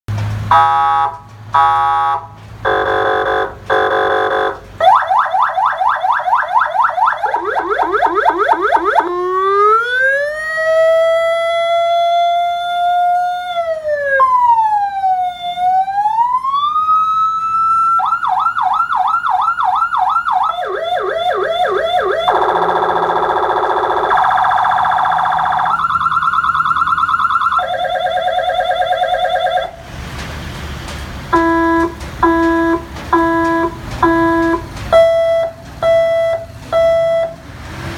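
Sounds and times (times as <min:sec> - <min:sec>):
electronic siren: 0:00.5 - 0:29.8, 0:31.3 - 0:37.4.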